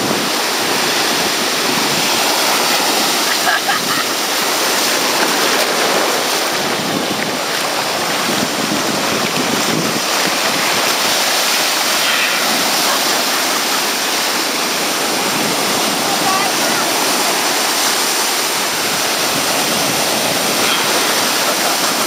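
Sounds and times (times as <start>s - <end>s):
waves breaking in shallows: 0.0s - 22.0s.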